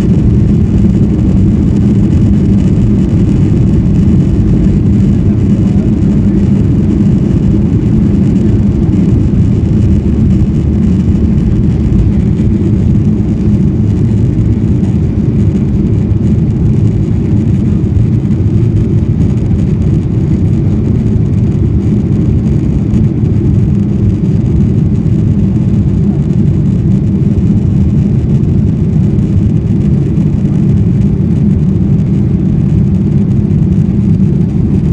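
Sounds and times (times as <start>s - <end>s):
jet engines low rumble: 0.0s - 34.9s.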